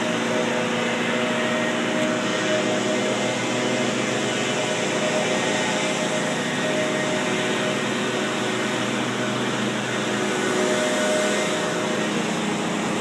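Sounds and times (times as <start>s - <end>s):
machine engine drone: 0.0s - 13.0s.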